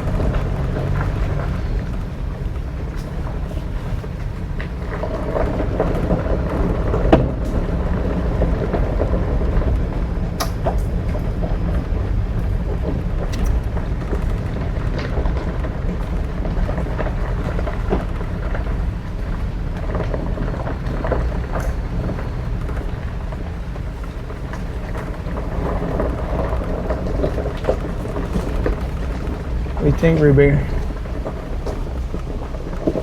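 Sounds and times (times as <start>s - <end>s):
ticks and crackles from road: 0.0s - 33.0s
vehicle low rumble on dirt road: 0.0s - 33.0s.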